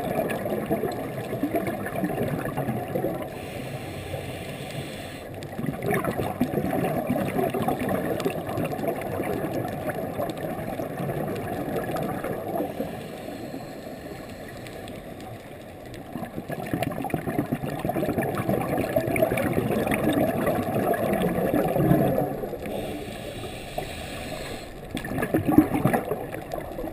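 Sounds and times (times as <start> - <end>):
muffled underwater bubbling: 0.0 - 26.9.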